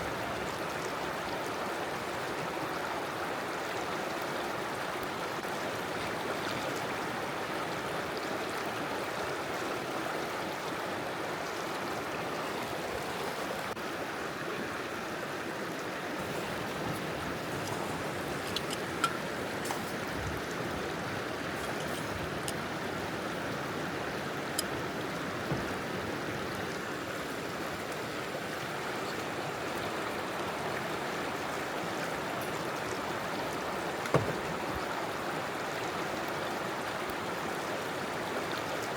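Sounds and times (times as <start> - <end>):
river water rushing over stones: 0.0 - 38.9.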